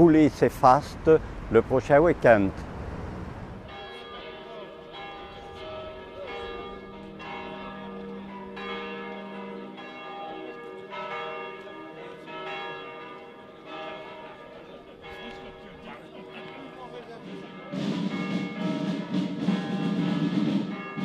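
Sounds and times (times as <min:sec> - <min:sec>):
church bells ringing: 0:03.6 - 0:21.0.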